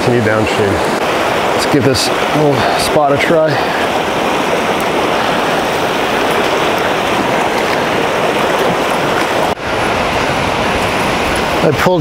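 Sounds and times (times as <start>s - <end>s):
river rapids rushing over rocks: 0.0s - 12.0s.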